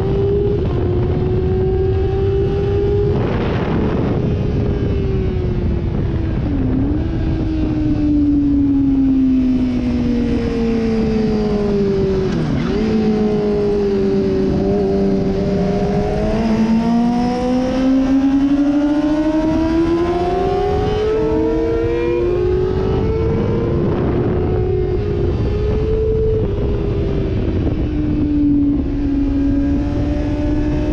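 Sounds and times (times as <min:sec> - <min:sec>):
heavy wind rush: 0:00.0 - 0:30.9
sportbike engine at speed: 0:00.0 - 0:30.9.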